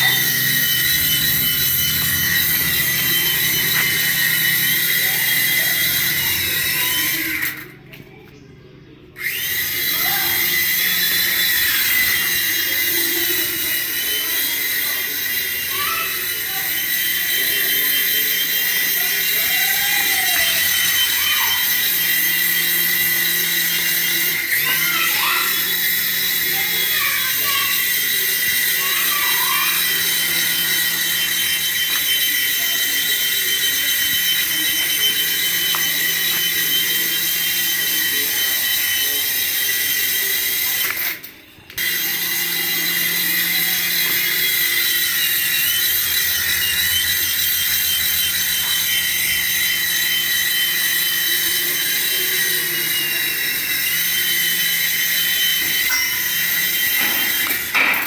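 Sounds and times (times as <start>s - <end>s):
small electric motor whining: 0.0s - 8.1s, 9.2s - 58.0s.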